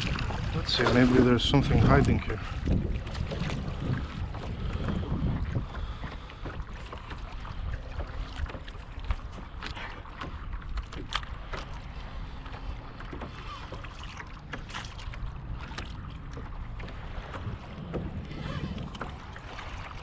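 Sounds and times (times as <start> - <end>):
water lapping against hull: 0.0 - 20.0
wind rumble on microphone: 0.0 - 20.0.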